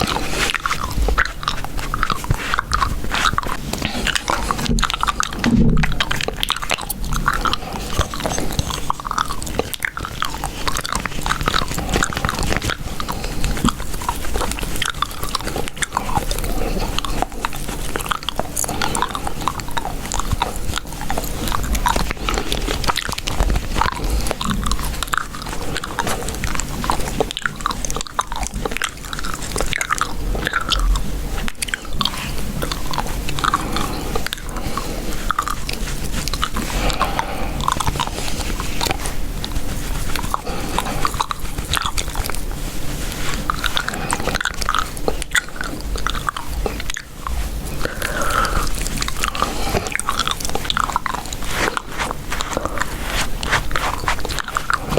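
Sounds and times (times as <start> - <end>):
chewing gum mouth smacking: 0.0 - 54.9.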